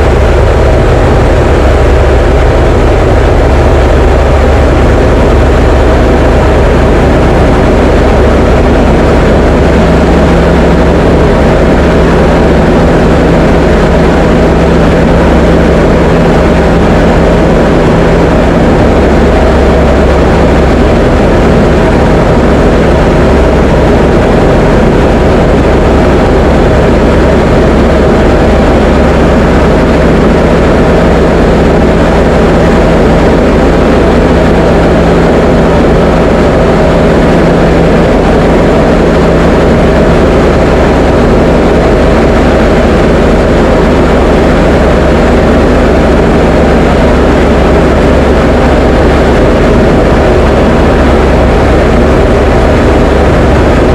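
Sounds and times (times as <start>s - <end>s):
light aircraft engine droning: 0.0s - 53.9s.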